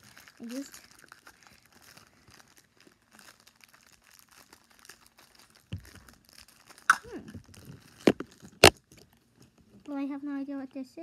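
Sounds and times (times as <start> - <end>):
plastic wrapper crinkling and tearing: 0.0 - 9.8.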